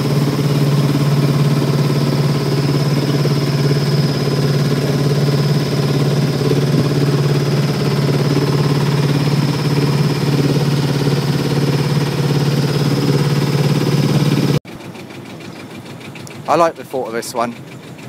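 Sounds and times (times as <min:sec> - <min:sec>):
thin high whine: 0:00.0 - 0:14.6
boat engine humming: 0:00.0 - 0:18.0.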